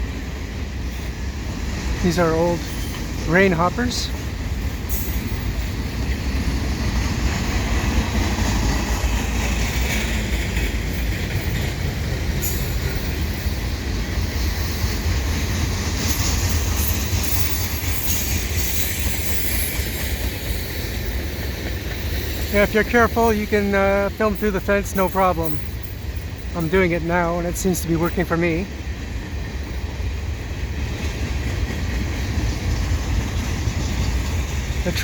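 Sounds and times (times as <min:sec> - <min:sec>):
steel wheels rumbling on rail: 0:00.0 - 0:35.0.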